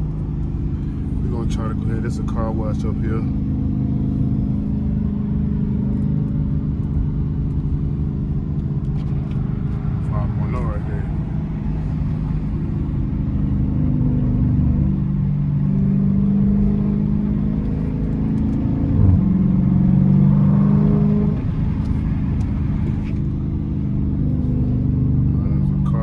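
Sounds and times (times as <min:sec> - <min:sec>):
car engine droning under throttle: 0:00.0 - 0:26.0.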